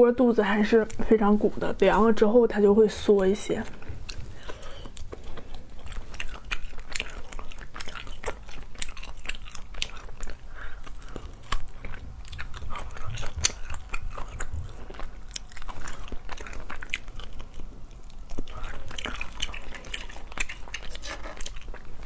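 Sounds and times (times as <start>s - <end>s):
wet mouth sounds: 3.8s - 22.0s.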